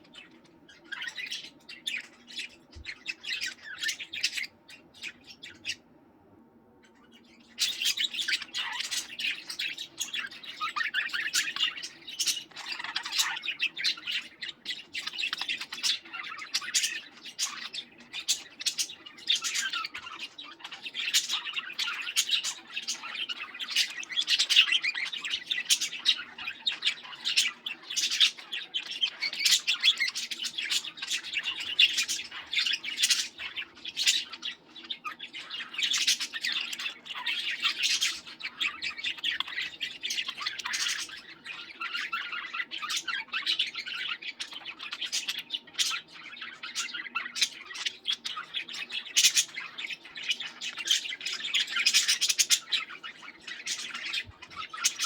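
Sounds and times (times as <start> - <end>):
budgerigars chattering: 0.0 - 5.8, 7.0 - 55.0.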